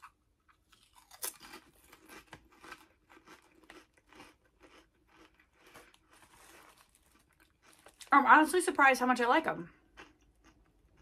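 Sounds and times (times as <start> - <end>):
person chewing potato chips: 0.0 - 8.2, 9.7 - 11.0.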